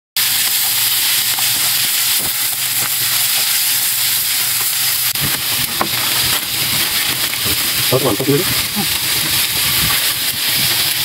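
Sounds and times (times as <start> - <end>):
food sizzling in a frying pan: 0.2 - 11.0.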